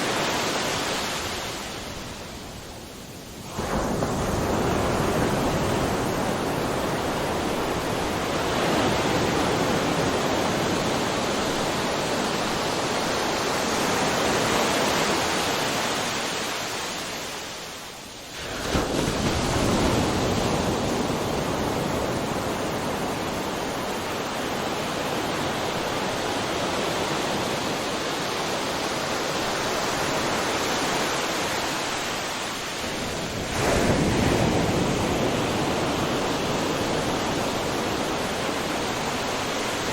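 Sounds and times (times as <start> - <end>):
ocean waves breaking: 0.0 - 2.2, 3.5 - 17.6, 18.3 - 39.9.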